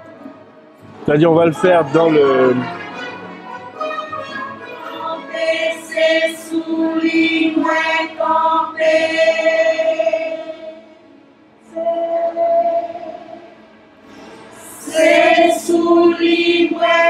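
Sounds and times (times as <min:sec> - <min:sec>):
choir singing long notes: 0:01.2 - 0:17.0.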